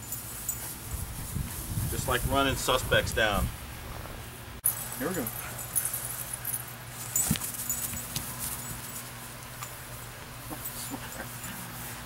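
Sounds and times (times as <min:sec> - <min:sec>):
dog moving on grass: 0:00.0 - 0:12.0
steady low hum: 0:00.0 - 0:12.0.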